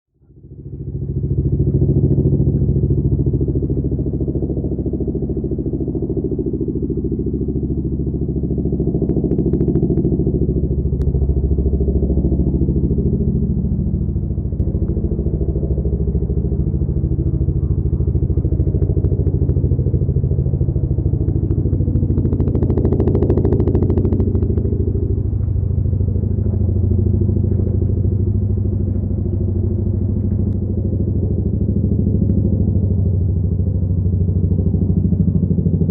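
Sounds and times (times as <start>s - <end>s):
helicopter rotor drone: 0.2s - 35.9s.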